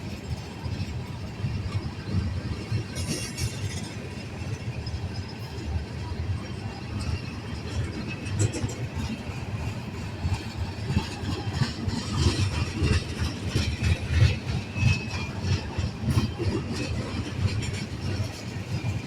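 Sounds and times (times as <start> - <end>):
freight train rumbling: 0.0 - 19.0.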